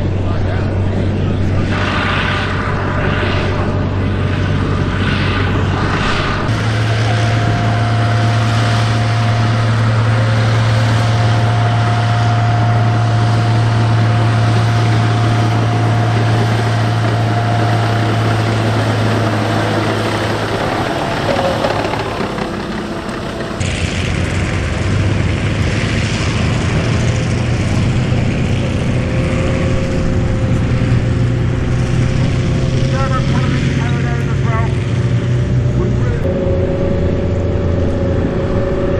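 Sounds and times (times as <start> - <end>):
thin steady whine: 0.0 - 38.9
tracked vehicle engine drone: 0.0 - 38.9.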